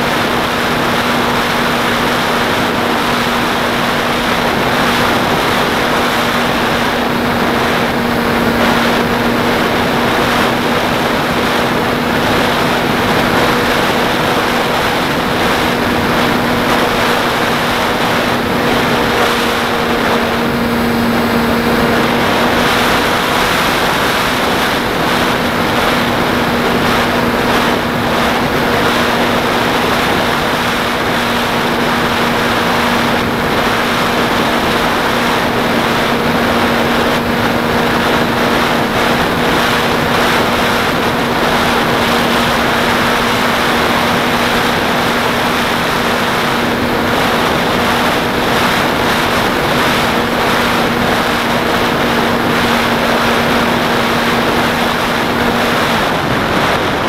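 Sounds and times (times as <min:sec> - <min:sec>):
model plane motor humming: 0:00.0 - 0:57.0
wind rush: 0:00.0 - 0:57.0.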